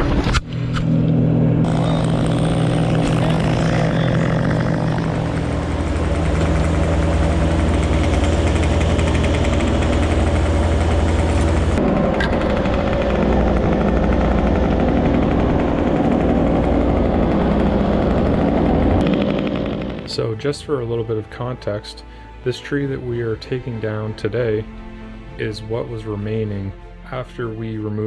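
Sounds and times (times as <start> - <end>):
engine running steadily: 0.4 - 27.6.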